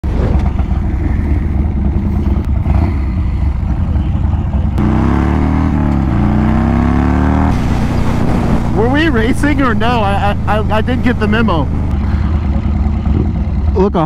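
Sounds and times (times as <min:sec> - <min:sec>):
motorcycle engine idling and revving: 0:00.1 - 0:14.0.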